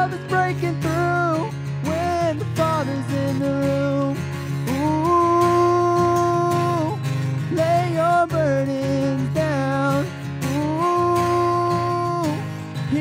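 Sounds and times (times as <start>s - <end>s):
man singing: 0.0s - 13.0s
strummed acoustic guitar: 0.0s - 13.0s.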